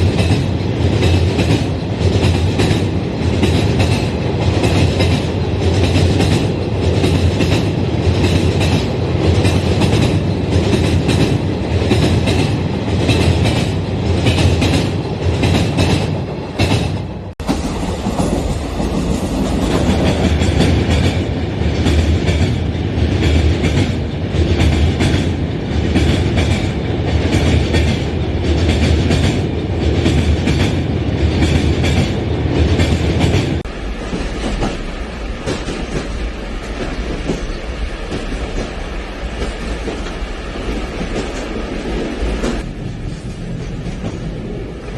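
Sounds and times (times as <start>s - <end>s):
clickety-clack of train wheels: 0.0s - 44.9s
train rumbling on track: 0.0s - 44.9s.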